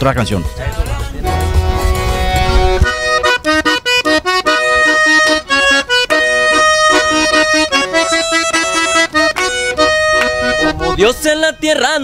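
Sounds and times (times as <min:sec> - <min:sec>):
button accordion playing: 0:00.0 - 0:12.0.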